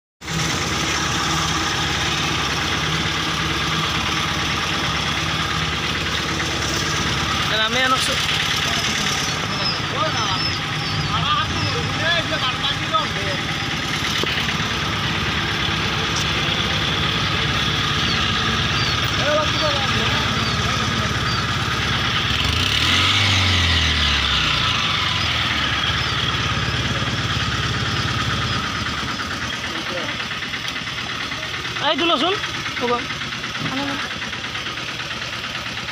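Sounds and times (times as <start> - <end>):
vehicle engine idling: 0.2 - 35.9.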